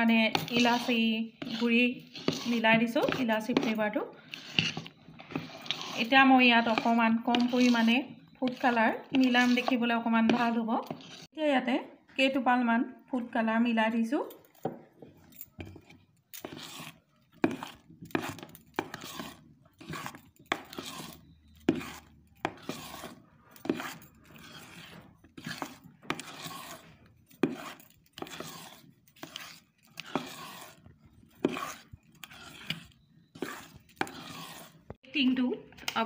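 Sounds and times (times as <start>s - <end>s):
metal spoon stirring batter in bowl: 0.0s - 11.7s, 13.2s - 36.0s.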